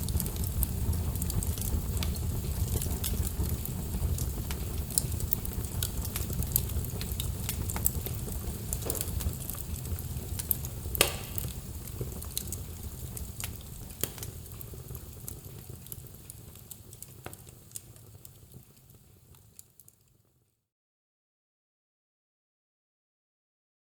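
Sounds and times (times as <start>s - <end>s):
sharp pops of fire: 0.0s - 19.6s
low rumble of flame: 0.0s - 19.9s
wood fire crackling: 0.0s - 20.3s.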